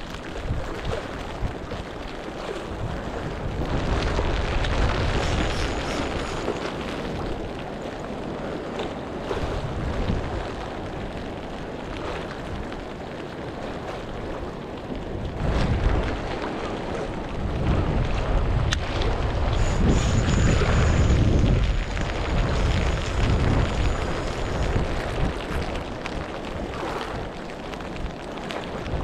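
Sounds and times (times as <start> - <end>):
storm wind buffeting microphone: 0.0 - 29.0.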